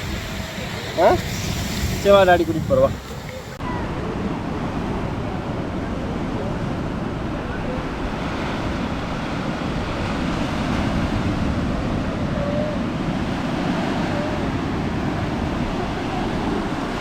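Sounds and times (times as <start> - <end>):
sea surf on a beach: 0.0 - 17.0
wind buffeting microphone: 0.0 - 17.0.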